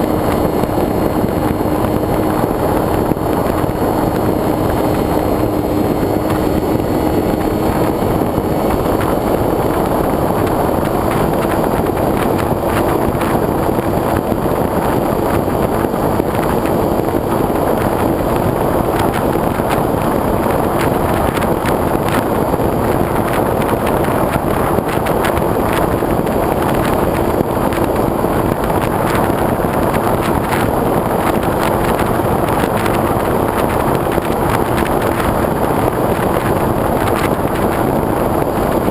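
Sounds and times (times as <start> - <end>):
crackles of wind buffeting: 0.0 - 38.9
wind rushing over camera: 0.0 - 38.9.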